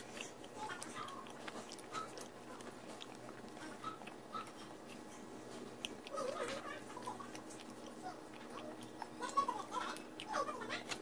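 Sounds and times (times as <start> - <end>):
chewing fried chicken: 0.0 - 11.0.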